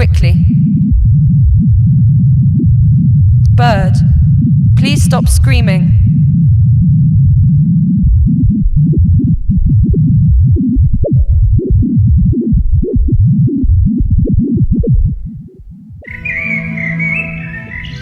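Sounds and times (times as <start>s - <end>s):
electronic music low throbbing pulses: 0.0s - 18.0s
held steady electronic tones: 0.0s - 18.0s
high electronic chirping: 0.0s - 18.0s.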